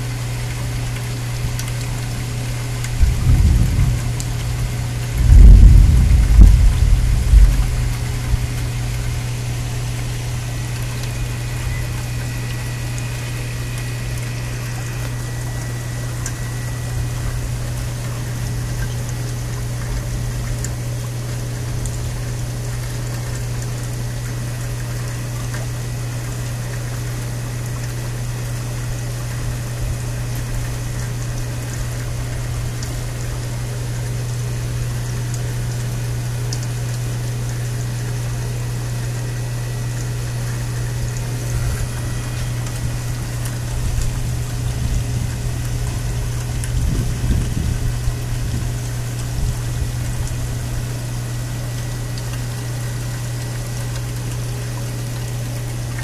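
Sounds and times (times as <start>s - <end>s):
low hum: 0.0s - 25.7s, 29.2s - 54.6s
heavy rain: 0.0s - 56.0s
running water: 0.0s - 56.0s.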